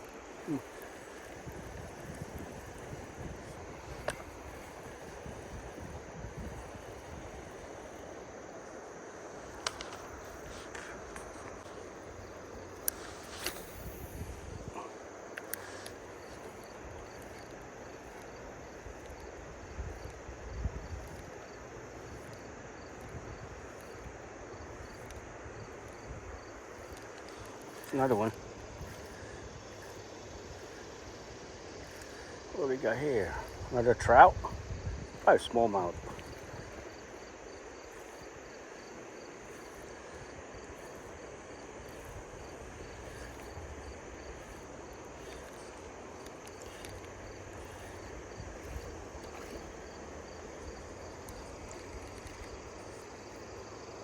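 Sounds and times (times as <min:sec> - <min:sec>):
wind rumbling on microphone: 0:00.0 - 0:15.2, 0:16.0 - 0:54.0
flowing river water: 0:00.0 - 0:54.0
insect chirping: 0:00.0 - 0:54.0.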